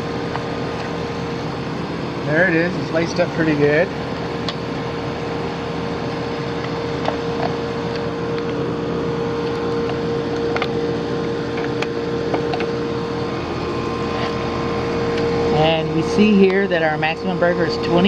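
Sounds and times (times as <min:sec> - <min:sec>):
air conditioner unit humming: 0:00.0 - 0:18.0.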